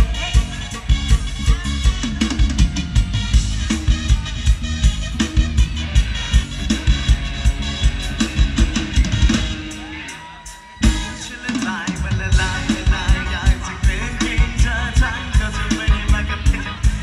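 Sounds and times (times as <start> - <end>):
drum kit beat with bass drum: 0.0 - 17.0
live band playing: 0.0 - 17.0.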